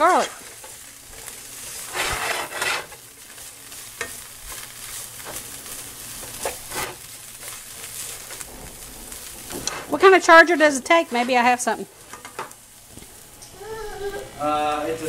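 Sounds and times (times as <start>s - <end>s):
spatula scraping a pan: 0.0s - 13.3s
food sizzling in a frying pan: 0.0s - 15.0s.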